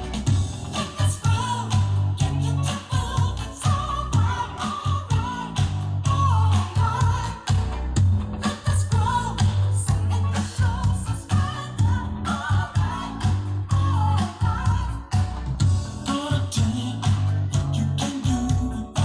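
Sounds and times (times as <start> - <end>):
heavy bass line: 0.0 - 19.0
pop song with singing: 0.0 - 19.0.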